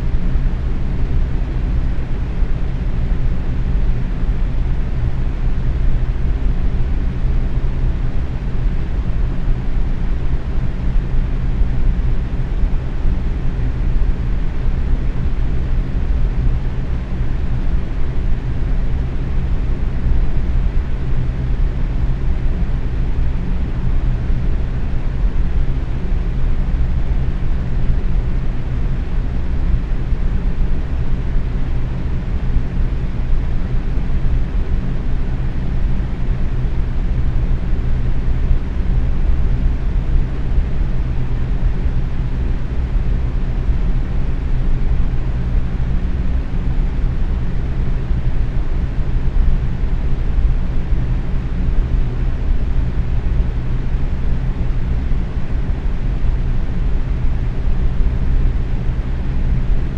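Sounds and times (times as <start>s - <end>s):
box fan running: 0.0s - 59.9s.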